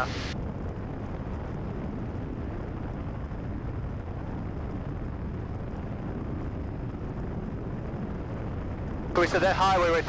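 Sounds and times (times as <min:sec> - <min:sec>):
airplane engine and propeller drone: 0:00.0 - 0:10.0.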